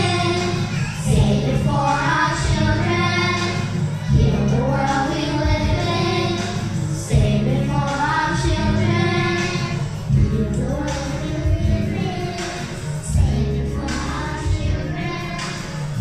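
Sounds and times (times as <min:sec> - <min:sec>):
children and woman singing: 0:00.0 - 0:16.0.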